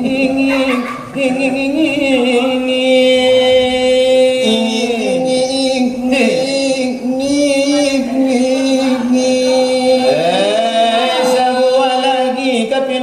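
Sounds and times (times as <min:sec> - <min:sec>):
voices chanting in long held notes: 0:00.0 - 0:13.0.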